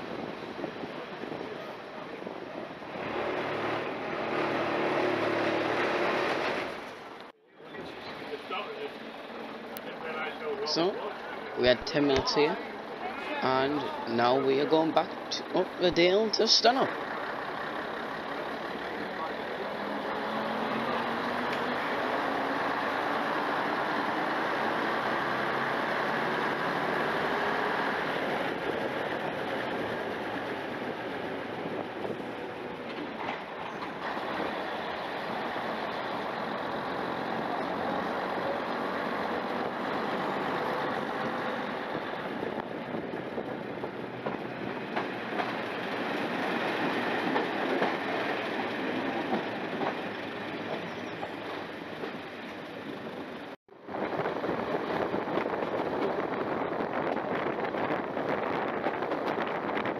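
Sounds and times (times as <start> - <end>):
diesel railcar engine: 0.0 - 59.9
train wheels on rails: 0.0 - 59.9.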